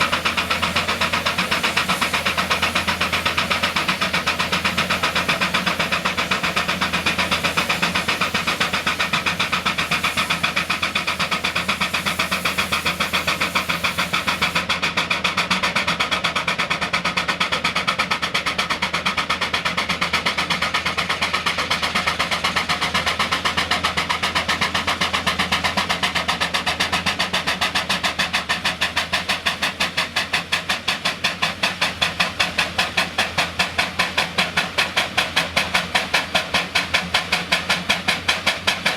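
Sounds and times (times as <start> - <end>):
steam engine exhaust chuffing: 0.0 - 38.9.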